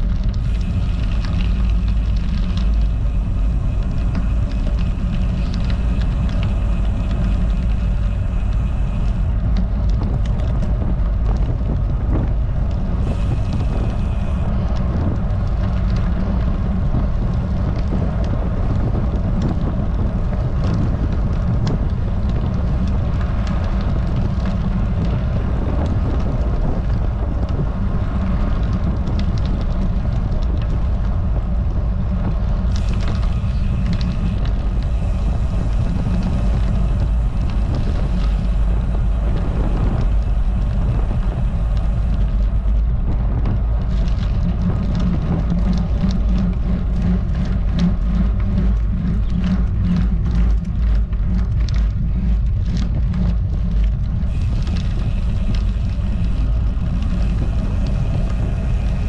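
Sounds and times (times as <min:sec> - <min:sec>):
bike tyres humming on asphalt: 0:00.0 - 0:59.0
wind rumbling on microphone: 0:00.0 - 0:59.0.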